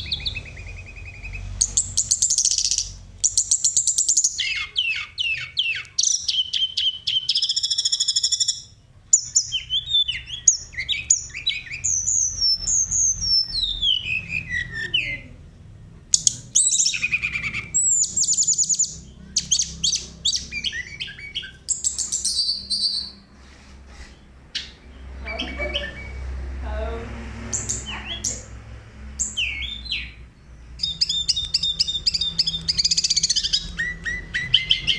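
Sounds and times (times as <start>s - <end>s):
songbird trilling and whistling: 0.0s - 15.4s, 16.1s - 23.3s, 24.5s - 26.2s, 29.2s - 34.9s.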